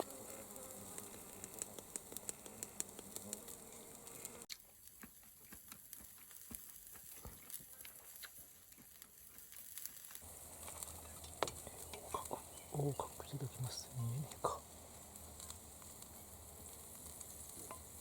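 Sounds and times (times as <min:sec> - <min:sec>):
fat crackling and popping: 0:00.0 - 0:18.0
steak sizzling on a grill: 0:00.0 - 0:18.0.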